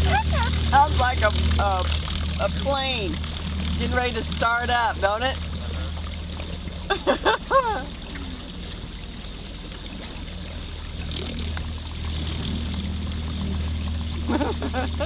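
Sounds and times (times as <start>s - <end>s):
electric motor hum and whine: 0.0s - 15.0s
water washing along hull: 0.0s - 15.0s.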